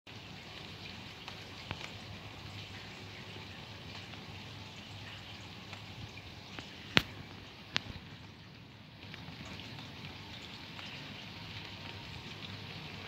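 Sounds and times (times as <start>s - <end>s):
light rain hiss: 0.1s - 13.0s
raindrops ticking close by: 0.1s - 13.0s.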